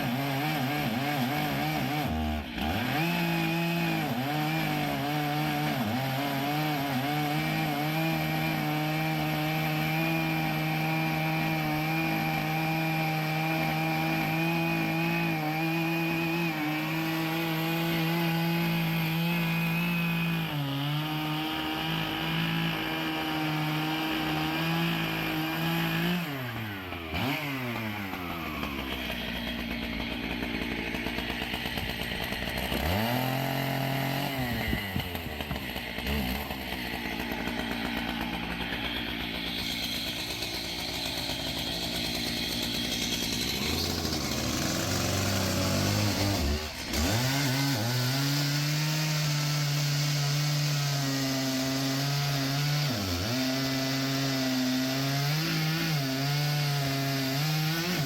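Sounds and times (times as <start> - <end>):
saw blade cutting log: 0.0 - 58.0
sawmill engine running: 0.0 - 58.0.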